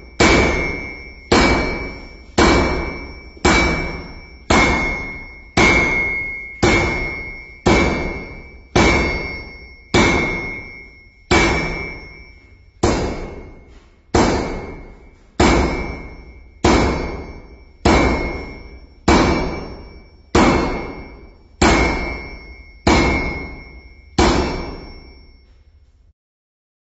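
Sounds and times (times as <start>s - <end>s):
sledgehammer striking steel anvil: 0.0s - 25.6s.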